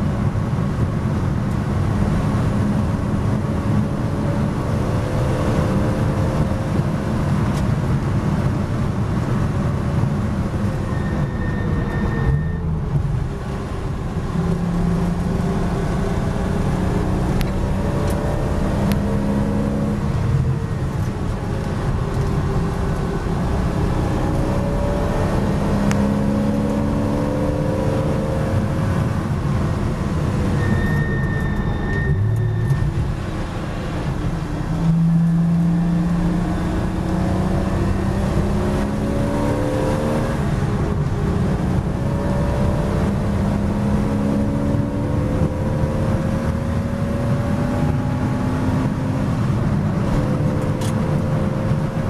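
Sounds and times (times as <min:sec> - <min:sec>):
road and tyre noise: 0:00.0 - 0:52.0
race car engine revving through gears: 0:00.6 - 0:52.0.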